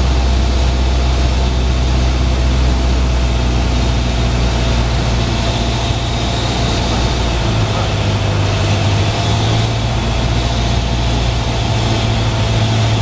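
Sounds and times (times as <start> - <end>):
propeller plane engine droning: 0.0 - 13.0
airflow hiss: 1.6 - 13.0.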